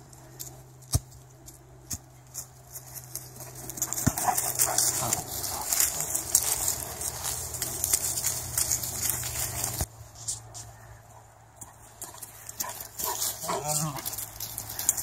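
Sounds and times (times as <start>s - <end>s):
rustling in grass and dry leaves: 0.0s - 15.0s.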